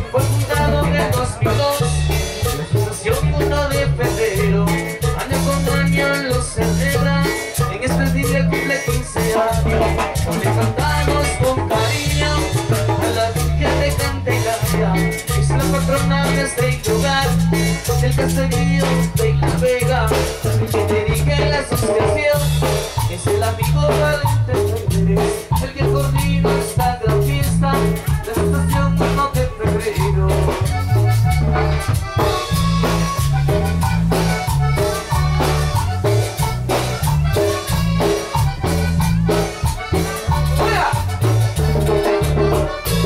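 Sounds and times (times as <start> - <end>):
bass line: 0.0 - 43.0
drum kit beat: 0.0 - 43.0
marimba melody: 0.0 - 43.0.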